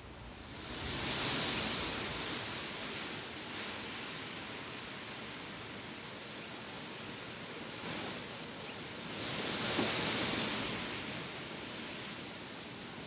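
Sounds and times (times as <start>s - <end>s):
wind rustling leaves: 0.0s - 13.0s.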